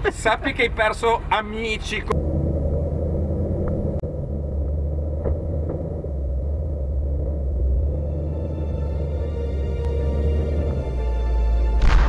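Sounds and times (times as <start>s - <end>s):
car engine running: 1.8s - 12.0s.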